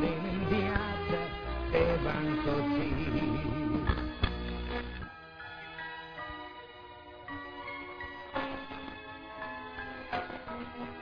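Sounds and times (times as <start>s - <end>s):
orchestral pop instrumental: 0.0s - 11.0s.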